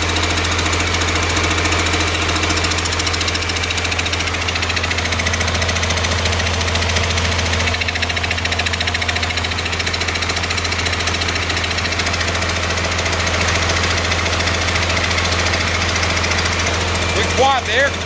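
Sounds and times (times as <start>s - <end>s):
air compressor running: 0.0s - 18.0s
diesel engine idling: 0.0s - 18.0s.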